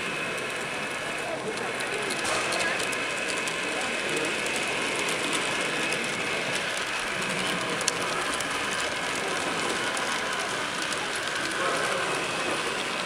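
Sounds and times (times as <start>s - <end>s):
model train motor whirring: 0.0s - 13.0s
rapid clicking of wheels: 0.0s - 13.0s.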